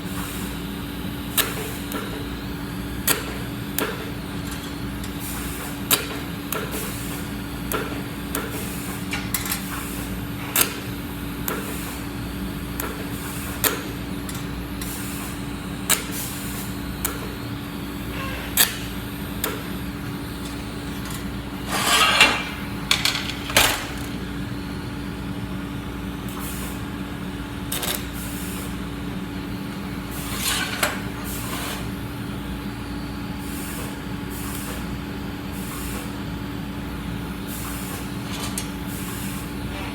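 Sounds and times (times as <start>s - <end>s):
welding equipment humming: 0.2s - 33.0s.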